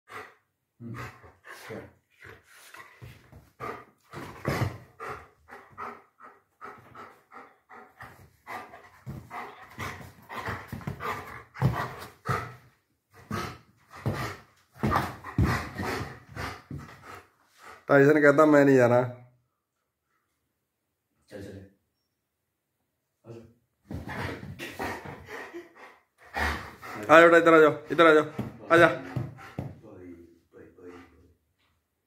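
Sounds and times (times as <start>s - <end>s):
dog panting: 0.1s - 18.0s, 23.9s - 31.7s.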